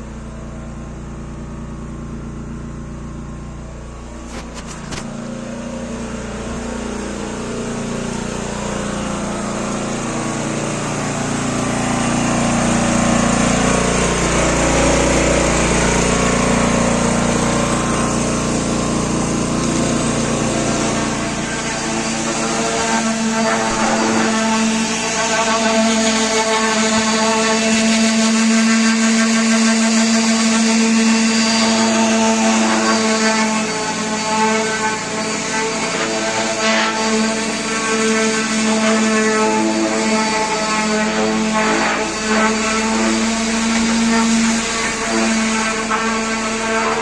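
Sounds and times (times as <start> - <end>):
power tool motor running: 0.0 - 47.0.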